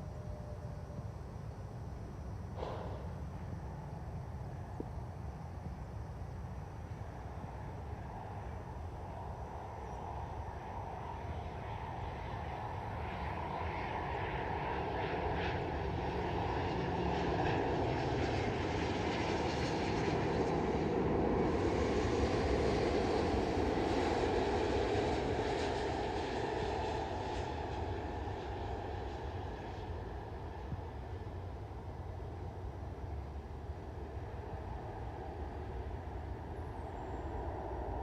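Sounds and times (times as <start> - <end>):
jet engines passing by: 0.0 - 38.0.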